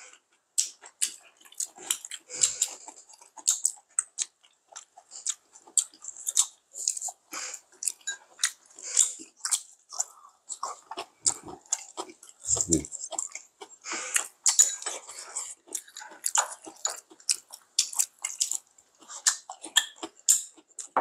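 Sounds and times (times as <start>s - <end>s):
chewing and biting: 0.1s - 21.0s.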